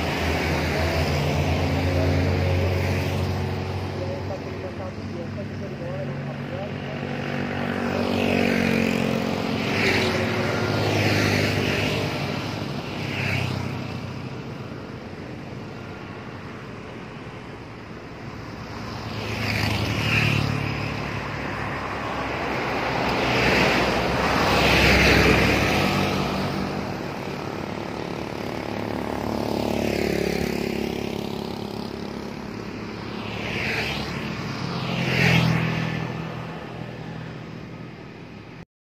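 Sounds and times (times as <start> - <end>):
motorcycles passing: 0.0 - 38.6.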